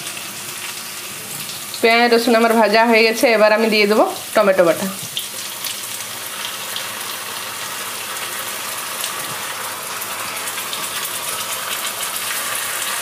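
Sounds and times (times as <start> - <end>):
tomato paste sizzling in hot oil: 0.0 - 13.0.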